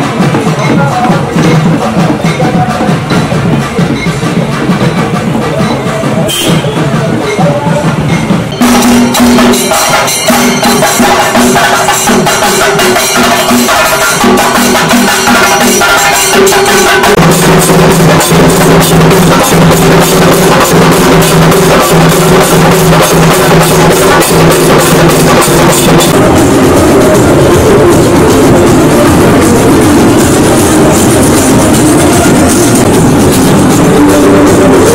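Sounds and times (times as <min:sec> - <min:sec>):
music with fast percussion beat: 0:00.0 - 0:34.9.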